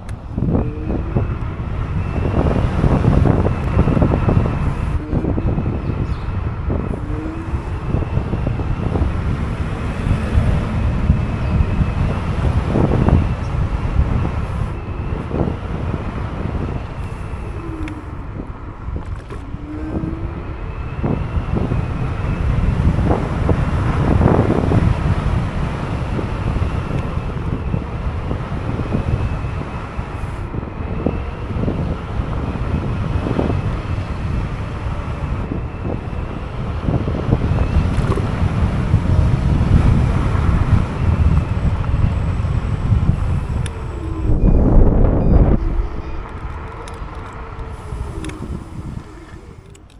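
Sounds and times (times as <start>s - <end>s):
scooter road rumble: 0.0s - 49.9s
wind buffeting microphone: 0.0s - 49.9s.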